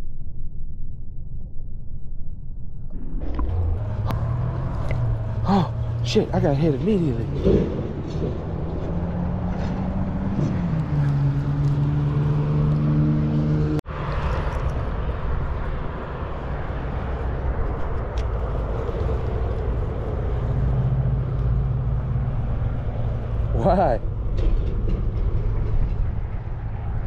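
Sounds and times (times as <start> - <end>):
low engine-like rumbling hum: 0.0 - 27.0.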